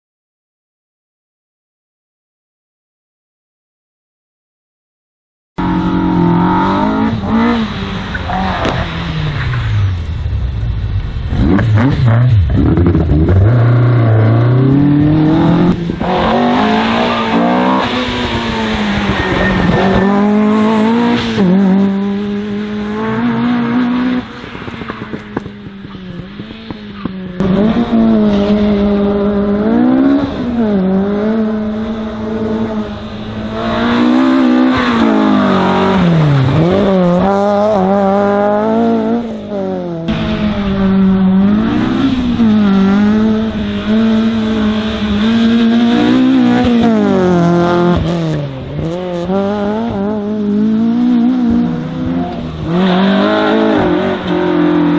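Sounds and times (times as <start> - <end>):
race car engine revving: 5.6 - 10.6, 11.2 - 54.9.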